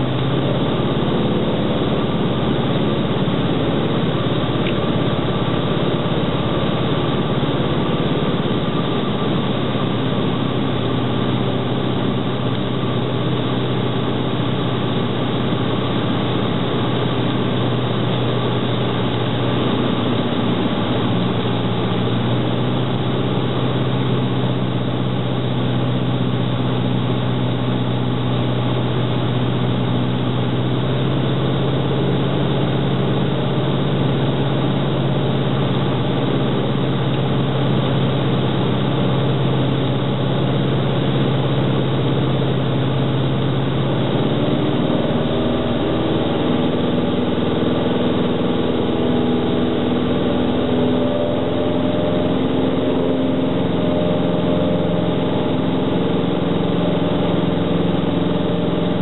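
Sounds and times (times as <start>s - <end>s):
airplane engine and propeller: 0.0s - 59.0s.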